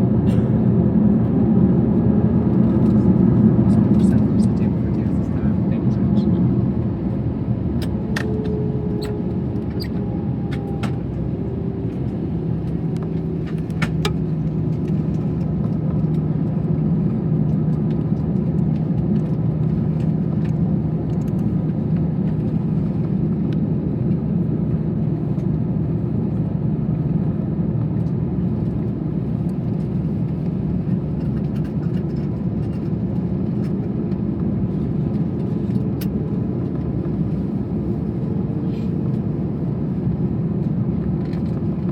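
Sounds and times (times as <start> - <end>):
airliner cabin rumble: 0.0 - 41.9.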